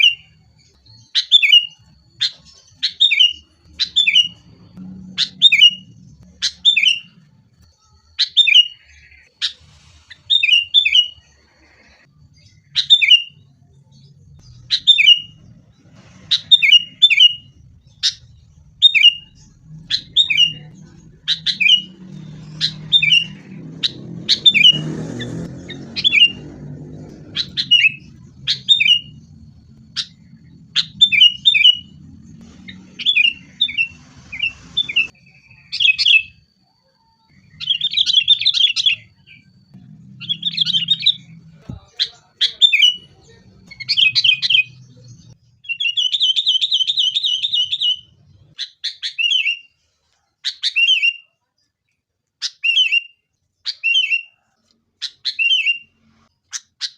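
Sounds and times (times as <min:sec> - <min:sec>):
birds chirping and chattering: 0:00.0 - 0:49.7
bird trill: 0:00.0 - 0:49.8, 0:50.4 - 0:51.4, 0:52.4 - 0:56.9.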